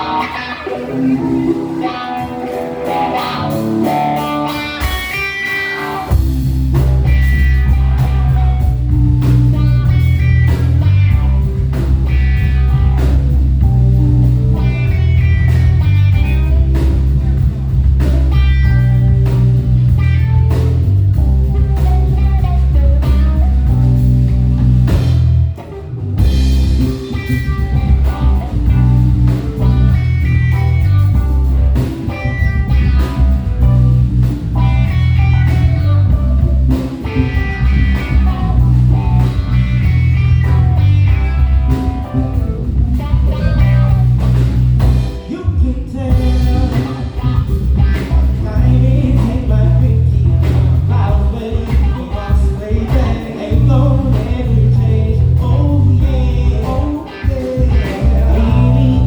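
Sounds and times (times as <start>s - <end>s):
bass guitar: 0.0s - 59.0s
drums: 0.0s - 59.0s
electric guitar melody: 0.0s - 59.0s.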